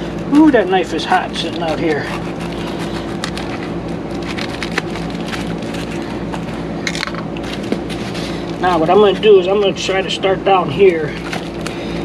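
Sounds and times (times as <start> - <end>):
air conditioner unit humming: 0.0 - 12.0
foam tube crackling: 0.2 - 12.0.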